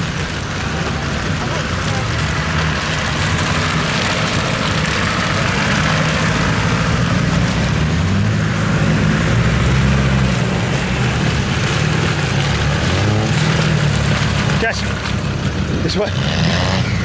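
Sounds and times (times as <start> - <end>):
diesel engine running at low revs: 0.0 - 17.0.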